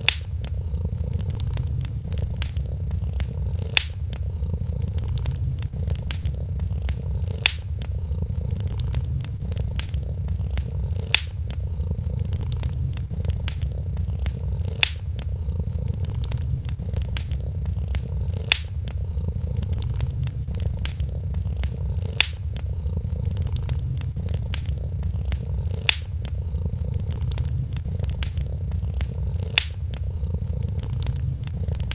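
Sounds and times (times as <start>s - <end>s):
cat purring: 0.0s - 31.9s
crackling wood fire: 0.0s - 31.9s
sharp fire pops: 0.0s - 31.9s.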